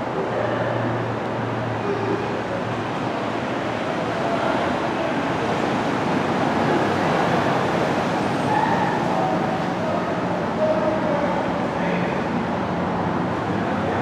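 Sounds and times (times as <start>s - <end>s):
continuous rumble and hiss: 0.0s - 14.0s.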